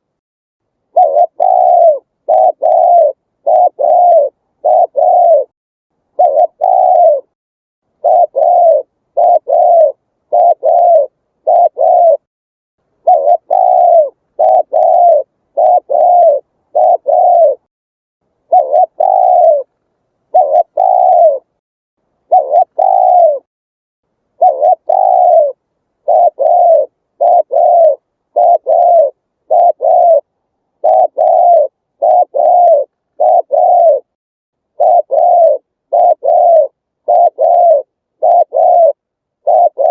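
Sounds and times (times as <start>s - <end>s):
dove cooing: 0.9s - 5.5s, 6.1s - 7.4s, 8.0s - 12.3s, 13.0s - 17.7s, 18.4s - 21.6s, 22.2s - 23.5s, 24.4s - 39.9s.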